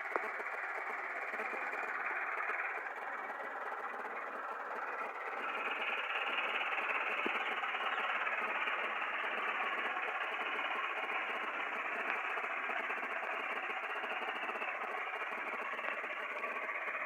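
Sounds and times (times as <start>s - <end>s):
tractor diesel engine clattering: 0.0s - 17.0s.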